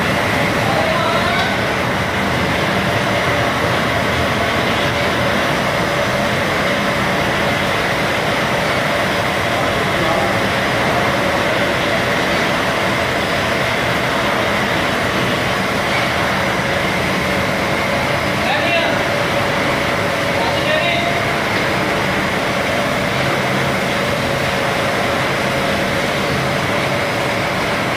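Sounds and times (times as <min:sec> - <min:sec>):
production line machinery running: 0:00.0 - 0:27.9.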